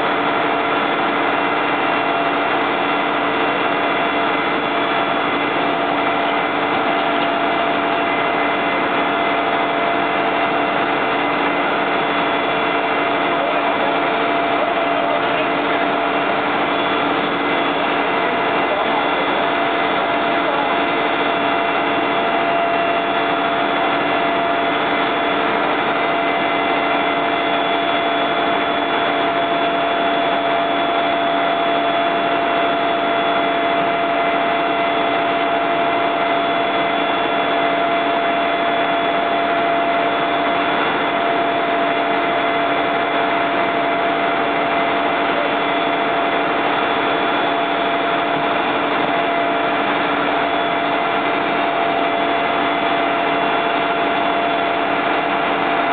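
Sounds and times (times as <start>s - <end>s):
fire truck engine droning: 0.0s - 55.9s.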